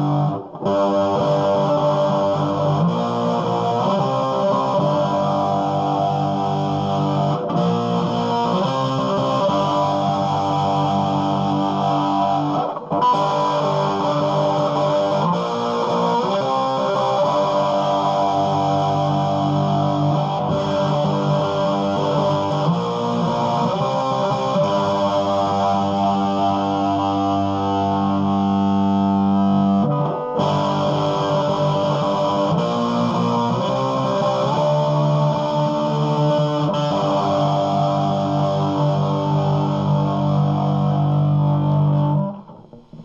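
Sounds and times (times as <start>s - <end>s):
distorted electric guitar chords: 0.0s - 43.0s.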